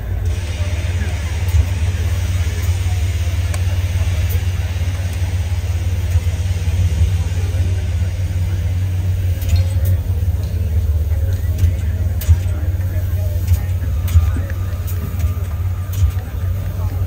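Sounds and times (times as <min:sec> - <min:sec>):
faint voices: 0:00.0 - 0:17.0
steady low rumble: 0:00.0 - 0:17.0.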